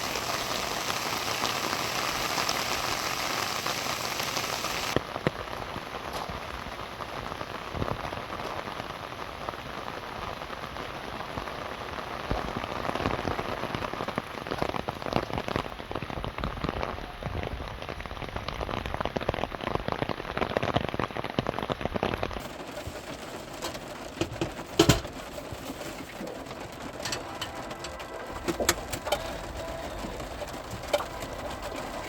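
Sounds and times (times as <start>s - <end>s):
rain pattering on a car roof: 0.0s - 32.0s.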